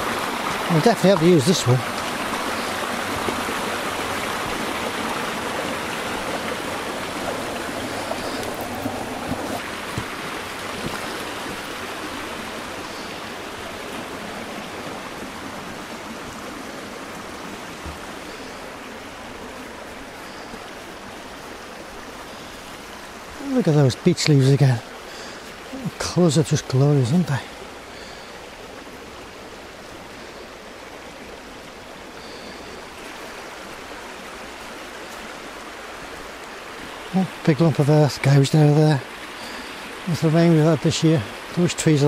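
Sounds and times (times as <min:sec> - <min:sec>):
river rushing over stones: 0:00.0 - 0:42.0.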